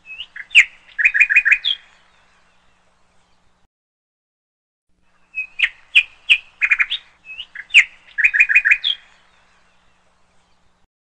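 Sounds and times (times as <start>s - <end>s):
bird chirping: 0.0s - 3.7s, 5.0s - 10.9s.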